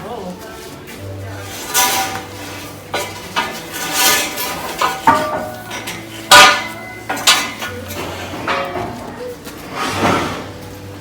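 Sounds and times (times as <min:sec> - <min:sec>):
scrap iron clanking: 0:01.2 - 0:11.0.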